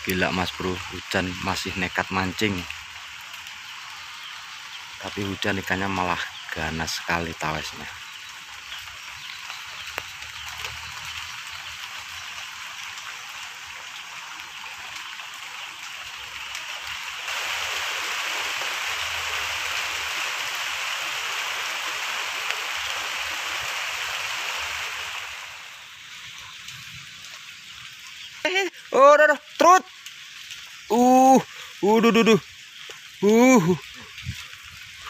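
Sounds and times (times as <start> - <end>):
rain hissing onto water: 0.0 - 35.0.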